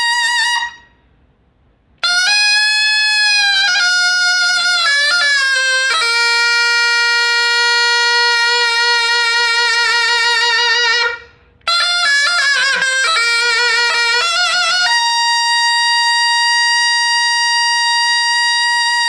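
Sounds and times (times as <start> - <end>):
loud double-reed shawm playing: 0.0 - 1.1, 1.8 - 19.0.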